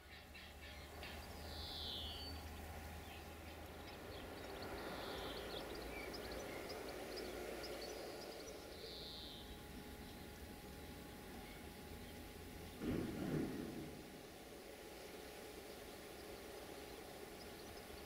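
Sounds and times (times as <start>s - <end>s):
birds chirping: 0.0s - 18.0s
buzzy downward-sliding bird calls: 0.0s - 18.0s
faint low hum: 0.0s - 18.0s.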